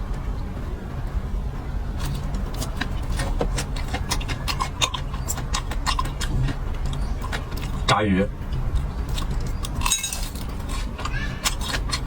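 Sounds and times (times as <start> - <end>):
low rumble: 0.0 - 11.5
crunchy eating: 2.0 - 12.0.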